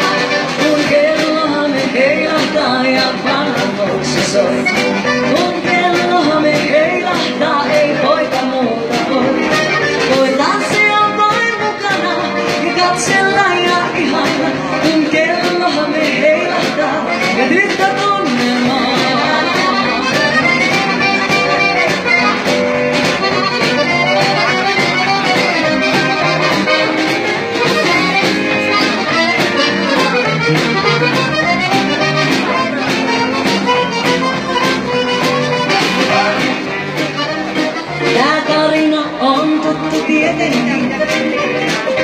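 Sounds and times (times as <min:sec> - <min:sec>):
accordion melody: 0:00.0 - 0:42.0
live dance band: 0:00.0 - 0:42.0
steady drum beat: 0:00.0 - 0:42.0.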